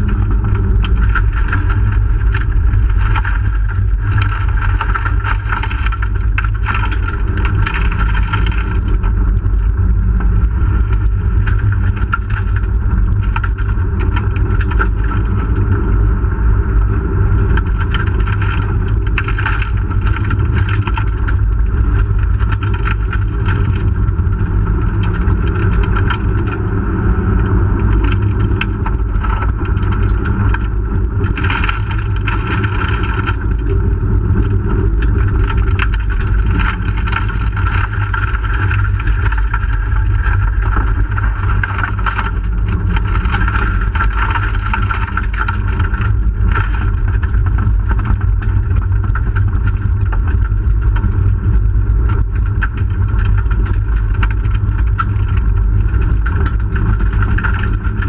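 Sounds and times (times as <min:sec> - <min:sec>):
low road rumble: 0:00.0 - 0:58.0
rally car engine running hard: 0:00.0 - 0:58.0.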